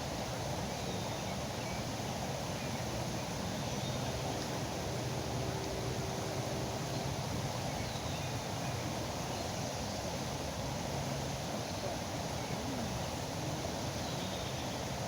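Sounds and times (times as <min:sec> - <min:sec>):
faint steady hum: 0:00.0 - 0:15.0
foaming river rushing: 0:00.0 - 0:15.0.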